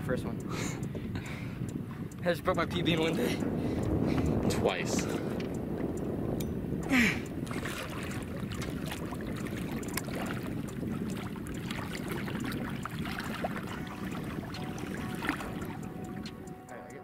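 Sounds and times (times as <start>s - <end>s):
water lapping against boat: 0.0s - 16.7s
wind: 0.0s - 17.0s.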